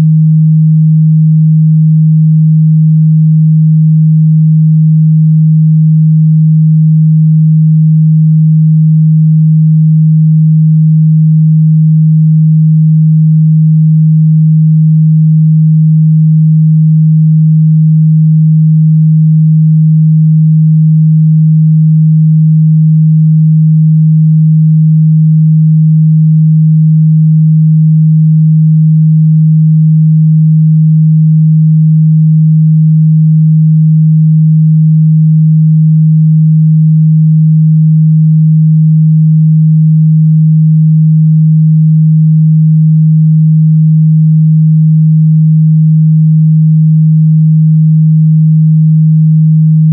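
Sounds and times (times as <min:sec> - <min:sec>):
low sine-wave test tone: 0:00.0 - 0:49.9.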